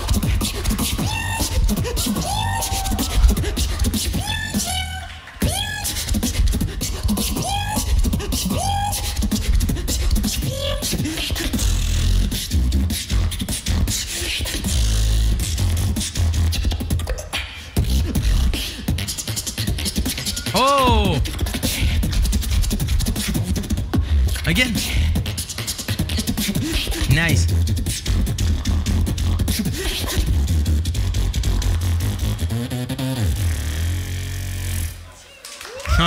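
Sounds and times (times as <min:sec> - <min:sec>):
beatboxing into a microphone: 0:00.0 - 0:35.0.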